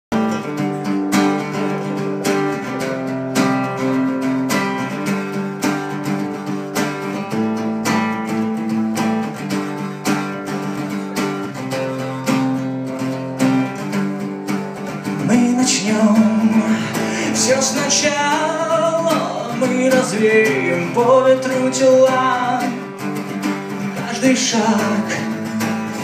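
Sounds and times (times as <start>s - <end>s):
strummed acoustic guitar: 0.1s - 26.0s.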